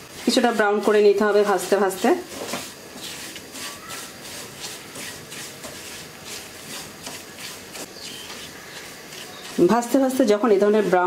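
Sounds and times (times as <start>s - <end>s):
spatula scraping frying pan: 0.0s - 11.0s.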